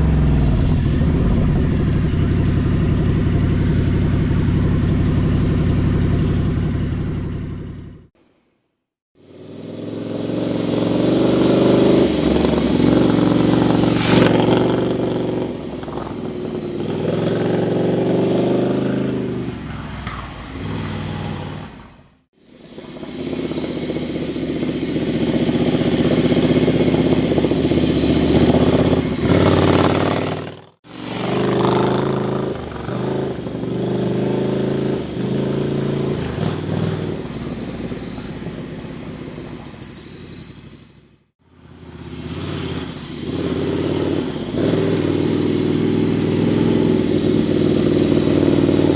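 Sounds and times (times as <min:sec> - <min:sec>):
motorcycle engine riding past: 0:00.0 - 0:08.1, 0:09.2 - 0:48.9.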